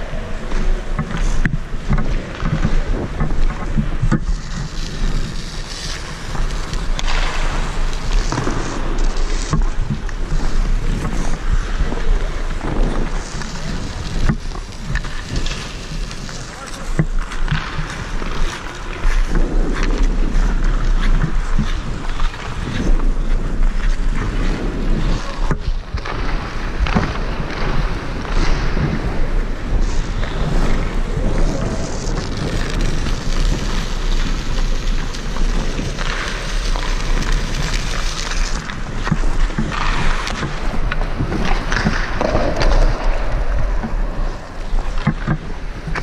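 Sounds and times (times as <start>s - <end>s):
skate blades scraping ice: 0.0s - 46.0s
wind on microphone: 0.0s - 46.0s.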